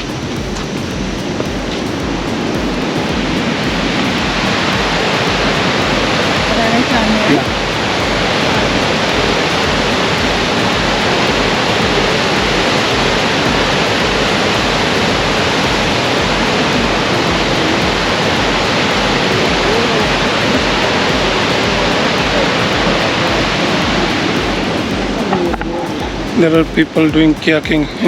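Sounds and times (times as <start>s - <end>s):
whitewater roaring over rocks: 0.0s - 28.0s.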